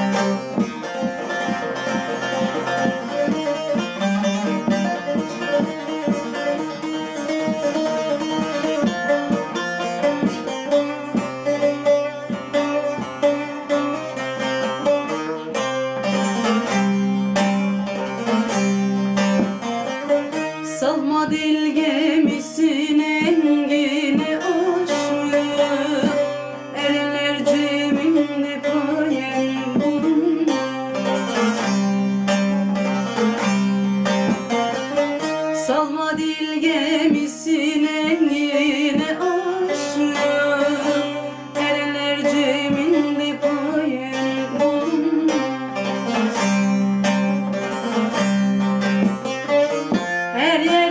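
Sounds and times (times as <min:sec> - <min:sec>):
plucked saz folk melody: 0:00.0 - 0:50.9.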